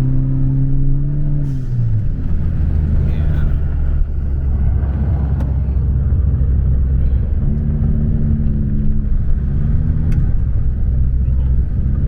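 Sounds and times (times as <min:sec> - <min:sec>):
road rumble: 0:00.0 - 0:12.0
car engine running: 0:02.0 - 0:12.0.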